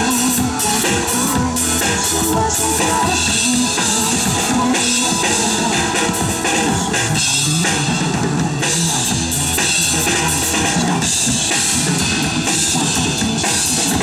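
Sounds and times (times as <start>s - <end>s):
drum kit playing: 0.0s - 14.0s
pop backing track: 0.0s - 14.0s.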